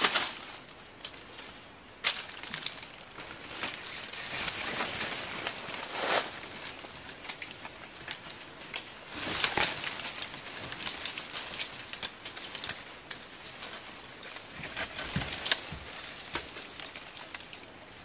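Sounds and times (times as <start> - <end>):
twigs snapping: 0.0 - 17.8
dry leaves and twigs crackling underfoot: 0.0 - 18.0.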